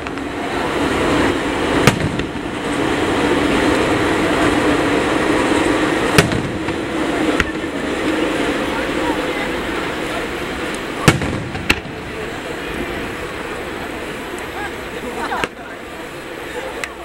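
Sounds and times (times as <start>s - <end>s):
firework bangs: 0.0s - 15.8s.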